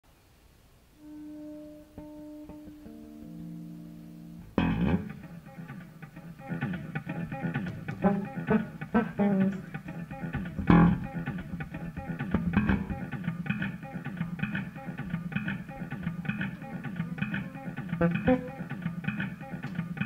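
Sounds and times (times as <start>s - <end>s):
electric bass playing: 1.0s - 20.0s.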